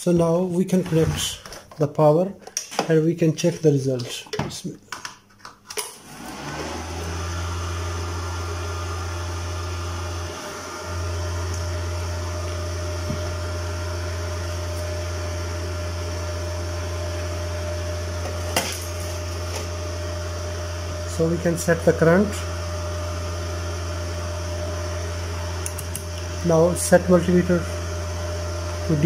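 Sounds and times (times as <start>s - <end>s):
welder fan humming: 5.7s - 29.0s.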